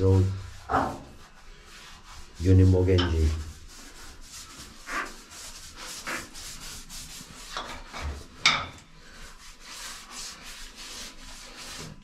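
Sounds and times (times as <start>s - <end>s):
cloth rubbing on steel plating: 0.0s - 12.0s.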